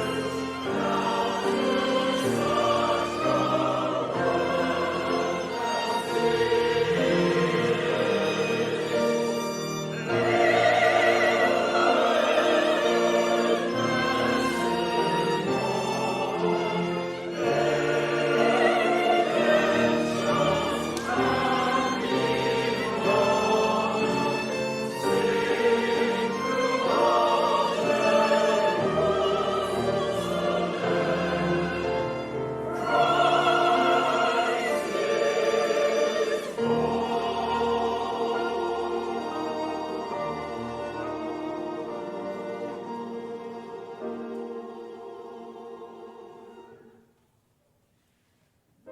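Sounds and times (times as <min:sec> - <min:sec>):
violin: 0:00.0 - 0:47.1
choir singing: 0:00.0 - 0:47.2.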